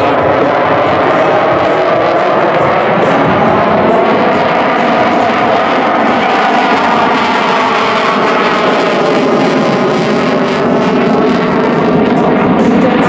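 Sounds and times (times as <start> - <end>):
jet engines in afterburner: 0.0 - 13.0.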